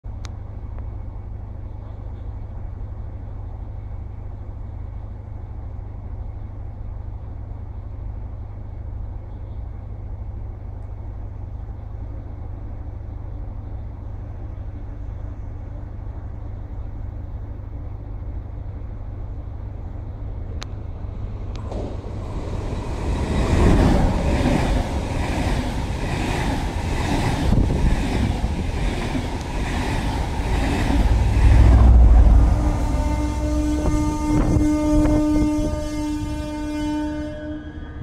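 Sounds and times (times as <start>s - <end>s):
railway station background rumble: 0.0s - 38.0s.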